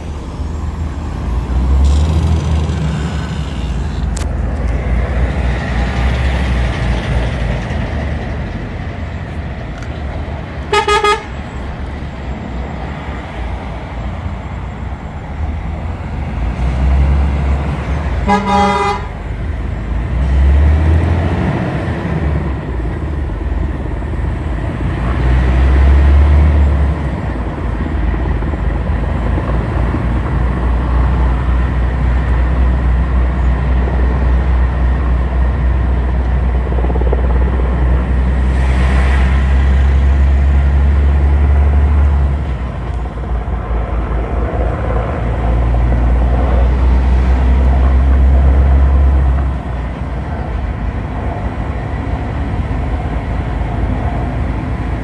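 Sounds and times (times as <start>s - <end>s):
motor vehicle rumble: 0.0s - 55.0s.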